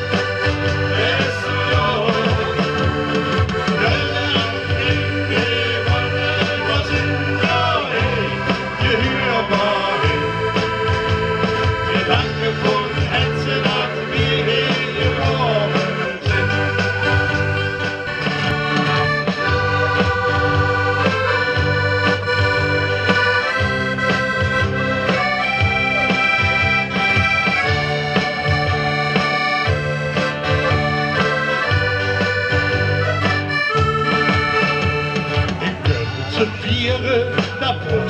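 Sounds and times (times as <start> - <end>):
electric and acoustic guitars: 0.0 - 38.0
keyboard: 0.0 - 38.0
piano accordion melody: 0.0 - 38.0.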